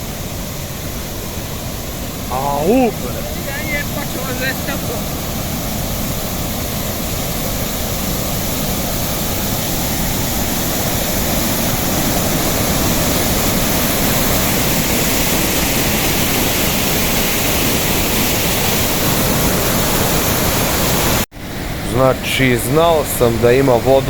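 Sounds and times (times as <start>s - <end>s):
waterfall roaring: 0.0s - 21.2s.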